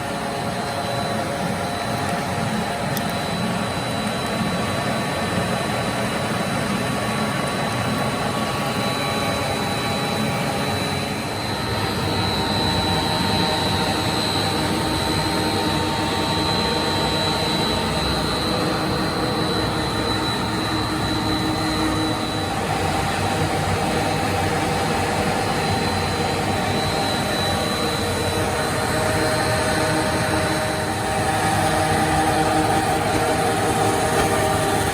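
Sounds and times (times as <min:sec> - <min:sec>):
machine rumble with high whine: 0:00.0 - 0:34.9.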